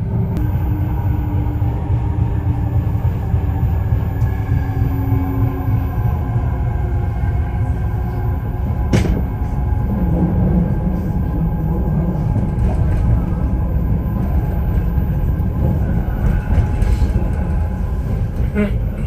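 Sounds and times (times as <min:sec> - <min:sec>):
underground train rumble and whine: 0:00.0 - 0:19.0.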